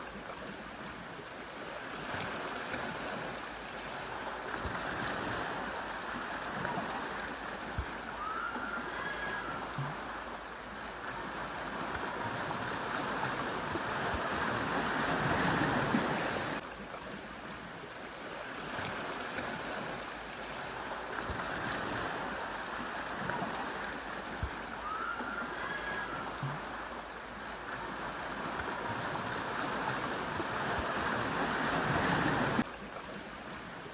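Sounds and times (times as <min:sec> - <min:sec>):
sea waves washing onto beach: 0:00.0 - 0:33.9.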